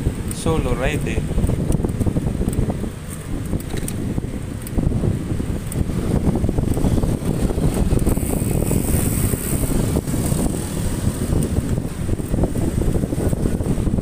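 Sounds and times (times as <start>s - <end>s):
road and traffic noise: 0.0s - 14.0s
wind buffeting microphone: 0.0s - 14.0s.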